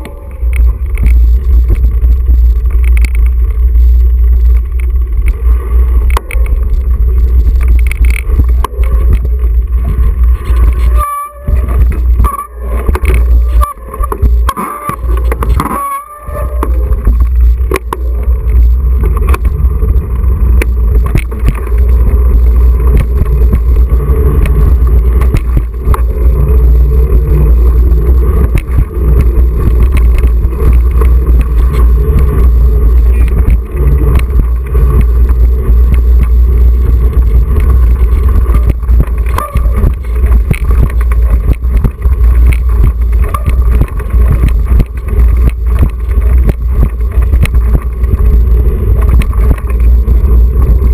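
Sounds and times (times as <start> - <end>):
bike knocking and rattling: 0.0 - 50.9
bike tyres rumbling on concrete: 0.0 - 50.9.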